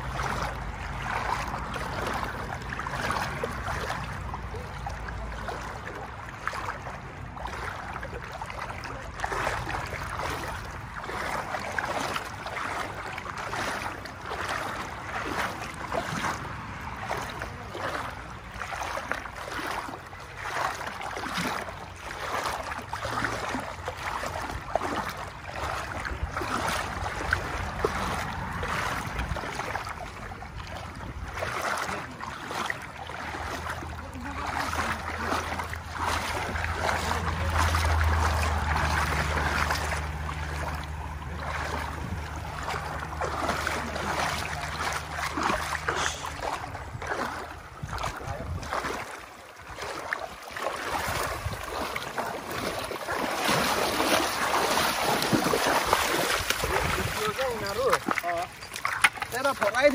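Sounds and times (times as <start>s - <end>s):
legs wading through water: 0.0s - 59.9s
rocky creek running: 0.0s - 59.9s.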